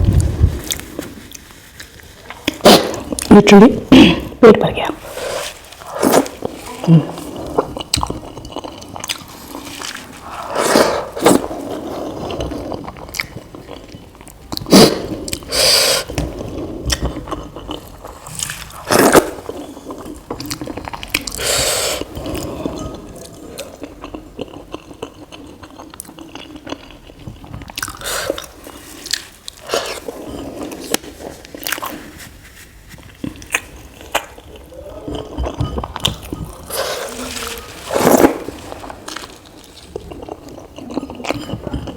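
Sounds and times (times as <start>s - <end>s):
chewing with wet mouth noises: 5.7s - 41.9s.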